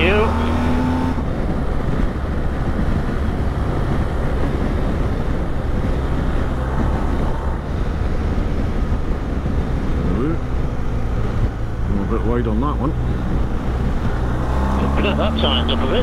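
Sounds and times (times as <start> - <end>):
motorcycle engine droning: 0.0 - 16.0
wind rushing over microphone: 0.0 - 16.0.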